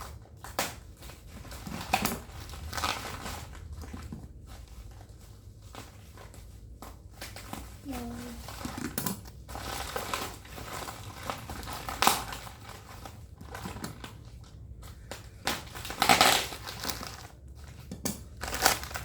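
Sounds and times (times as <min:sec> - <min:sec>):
packing material crinkling: 0:00.0 - 0:19.0.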